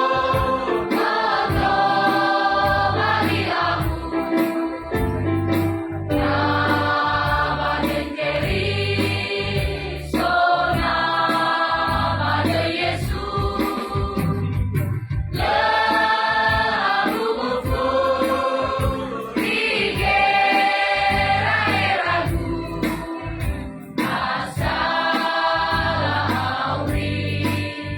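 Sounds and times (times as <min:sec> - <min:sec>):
choir singing held chords: 0:00.0 - 0:05.3, 0:06.1 - 0:14.4, 0:15.3 - 0:27.9.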